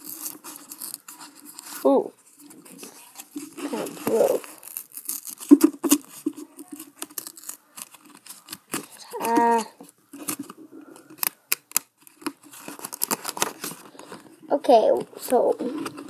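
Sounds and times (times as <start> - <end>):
foil wrapper crinkling and tearing: 0.0 - 14.2.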